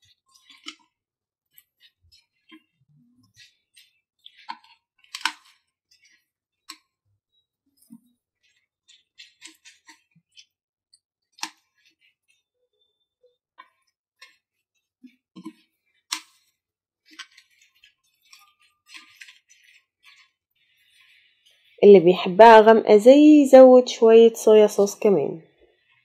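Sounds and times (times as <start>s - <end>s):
spatula tossing noodles in pan: 0.0s - 21.8s, 25.4s - 26.0s.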